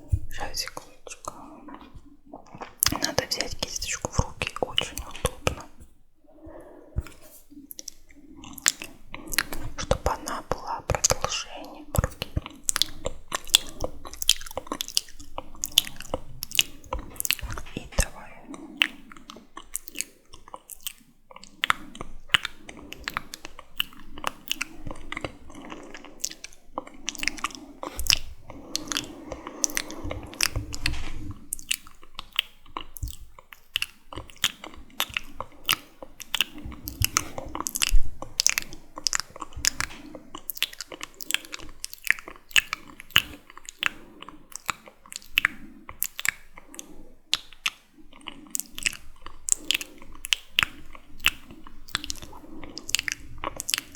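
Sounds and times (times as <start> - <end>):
soft breathing: 0.0 - 53.9
wet lip and tongue clicks: 0.0 - 53.9.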